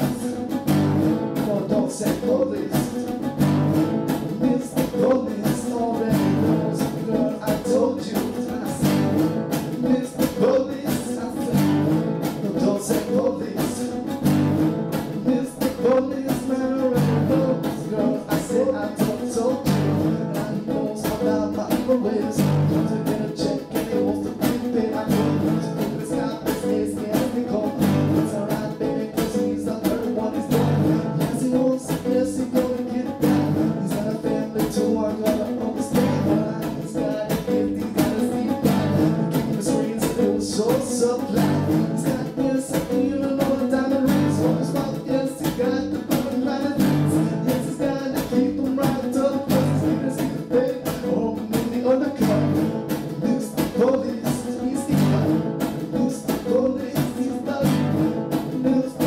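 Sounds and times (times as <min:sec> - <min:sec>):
song with guitar and beat: 0:00.0 - 0:59.0.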